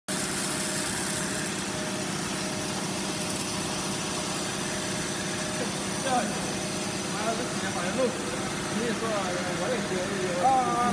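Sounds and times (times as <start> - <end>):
water spraying from nozzles: 0.1 - 10.9
machine motors humming: 0.6 - 10.9.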